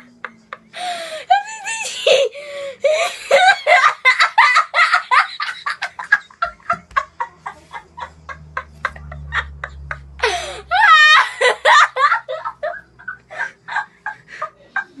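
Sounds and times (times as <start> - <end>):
boy laughing hard: 1.3 - 15.0.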